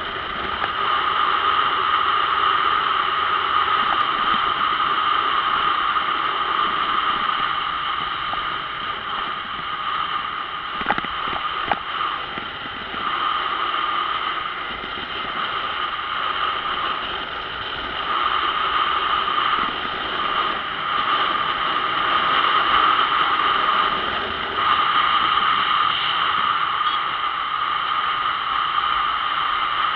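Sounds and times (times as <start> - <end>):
motorcycle engine: 0.0 - 28.5
wind noise: 0.0 - 29.9.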